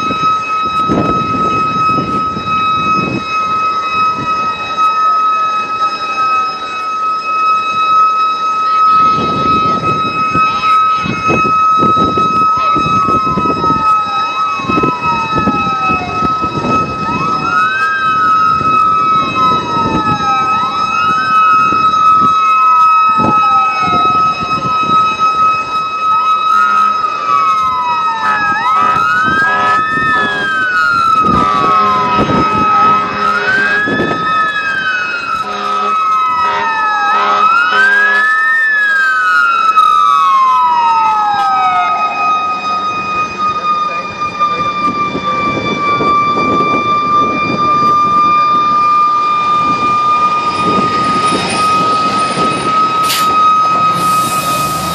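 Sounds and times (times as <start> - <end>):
fire truck sirens wailing: 0.0 - 54.9
steady high-pitched tone: 0.0 - 54.9.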